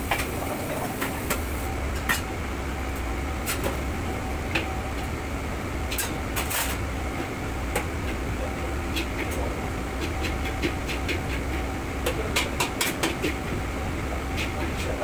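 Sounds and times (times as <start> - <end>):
low kitchen rumble: 0.0 - 15.0.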